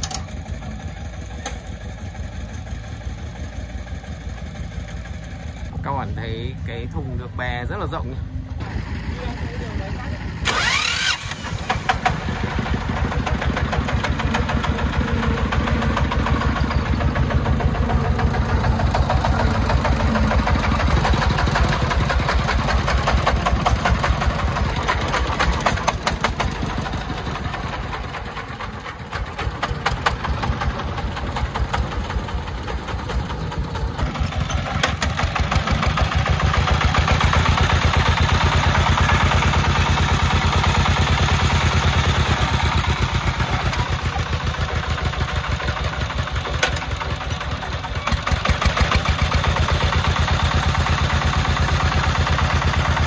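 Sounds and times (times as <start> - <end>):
diesel engine knocking: 0.0 - 53.0.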